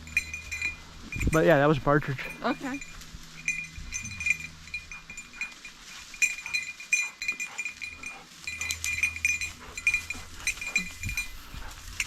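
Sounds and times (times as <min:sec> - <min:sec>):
collar bell jingling: 0:00.0 - 0:12.0.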